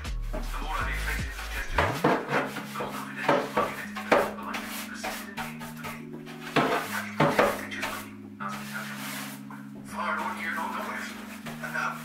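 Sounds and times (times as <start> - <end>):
background music with low notes: 0.0 - 12.0.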